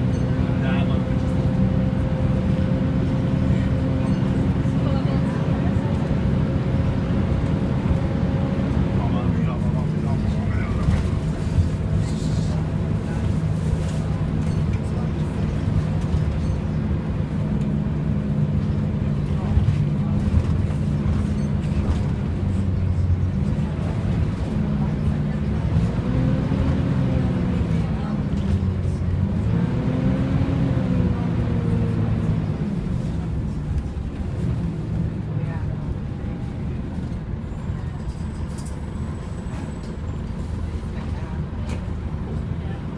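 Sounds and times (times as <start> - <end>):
diesel bus engine: 0.0 - 42.9.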